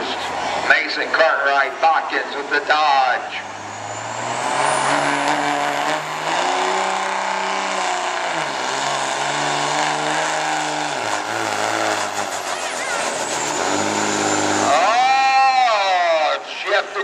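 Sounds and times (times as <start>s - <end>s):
diesel truck engine under load: 0.0s - 16.4s.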